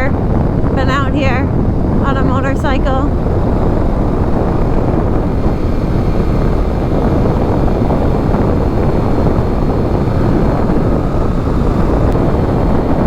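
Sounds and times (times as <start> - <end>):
motorcycle running noise: 0.0 - 13.0
wind buffeting microphone: 0.0 - 13.0.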